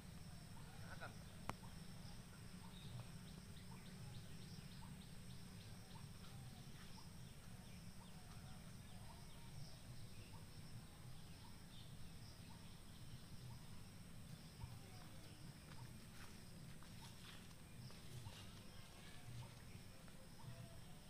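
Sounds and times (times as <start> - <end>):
low steady rumble: 0.0 - 21.0
small birds chirping: 0.0 - 21.0.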